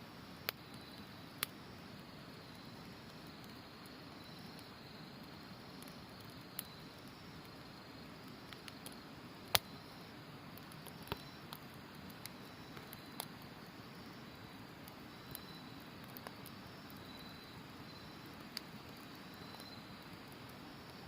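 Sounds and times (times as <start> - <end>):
campfire crackling: 0.0 - 21.0
insects trilling: 0.0 - 21.0.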